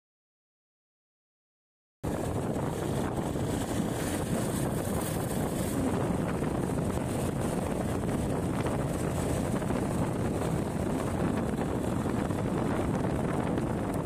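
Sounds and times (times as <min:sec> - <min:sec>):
road noise: 0:02.0 - 0:14.0
wind rushing over microphone: 0:02.0 - 0:14.0
motorcycle engine: 0:02.1 - 0:14.0.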